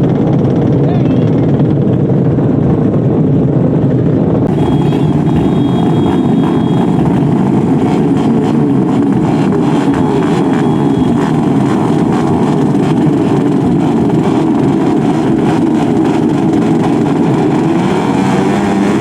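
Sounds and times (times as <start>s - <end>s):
racing motorcycle engine: 0.0s - 19.0s.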